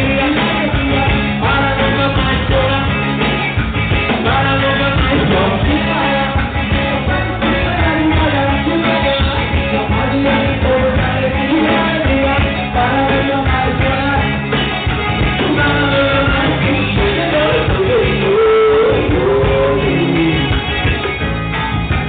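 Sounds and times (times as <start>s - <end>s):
person singing: 0.0s - 3.4s, 4.0s - 20.8s
bass: 0.0s - 22.0s
drum kit: 0.0s - 22.0s
guitar: 0.0s - 22.0s.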